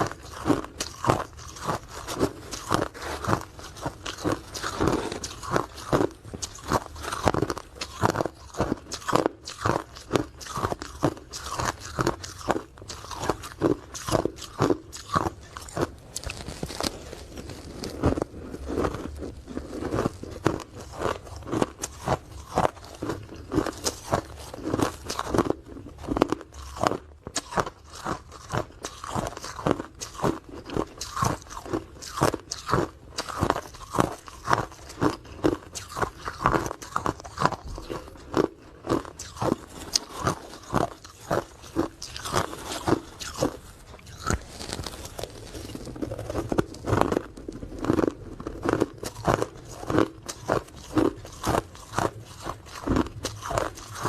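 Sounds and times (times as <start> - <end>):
person chewing hard ice: 0.0 - 54.0.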